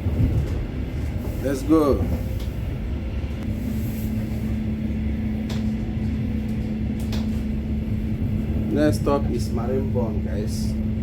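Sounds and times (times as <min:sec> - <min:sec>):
steady hum: 0:00.0 - 0:11.0
train carriage rumble: 0:00.0 - 0:11.0.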